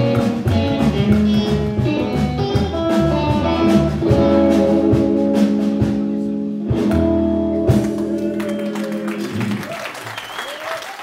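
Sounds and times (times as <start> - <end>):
electric guitar: 0.0 - 9.7
upright double bass: 0.0 - 9.7
drum kit: 0.0 - 9.8.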